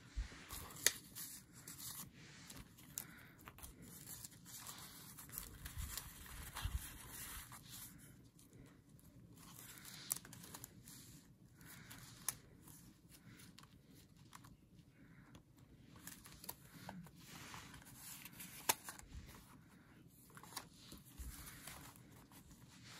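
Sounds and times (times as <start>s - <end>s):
paper and card rustling: 0.1s - 22.9s.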